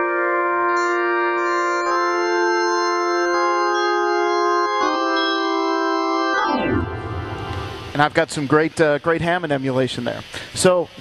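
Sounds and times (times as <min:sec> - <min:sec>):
sustained organ chords: 0:00.0 - 0:09.0.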